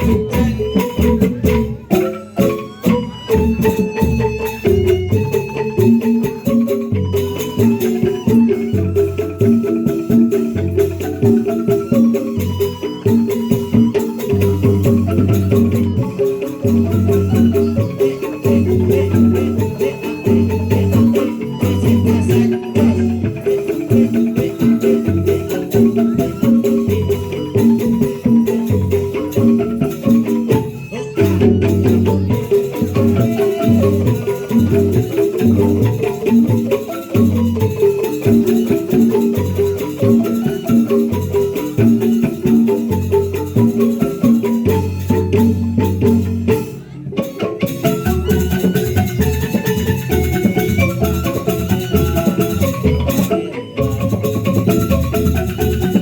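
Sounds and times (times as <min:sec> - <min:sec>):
mallet percussion ensemble music: 0:00.0 - 0:56.0
rattling percussion: 0:00.0 - 0:56.0.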